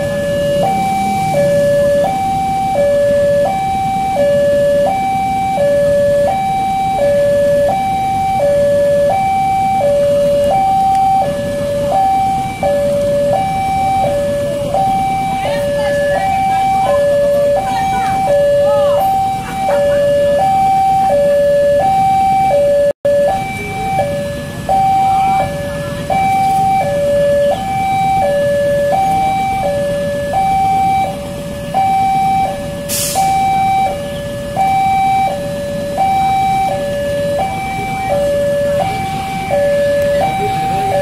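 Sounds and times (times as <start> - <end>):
level crossing two-tone alarm: 0.0 - 41.0.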